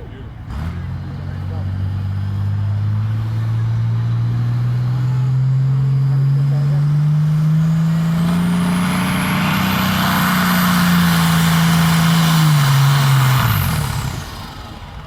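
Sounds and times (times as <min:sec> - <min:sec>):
high engine whine: 0:00.0 - 0:15.0
tractor engine running hard: 0:00.0 - 0:15.0.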